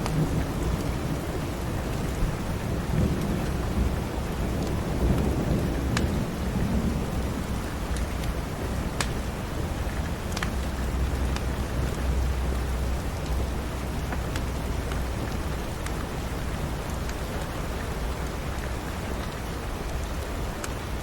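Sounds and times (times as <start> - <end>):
low rumble of thunder: 0.0 - 17.0
steady rain: 0.0 - 21.0
wood fire crackling: 0.0 - 21.0.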